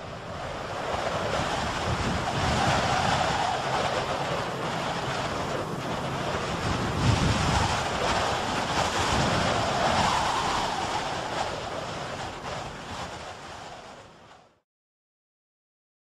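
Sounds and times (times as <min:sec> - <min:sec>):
rushing wind: 0:00.0 - 0:14.6.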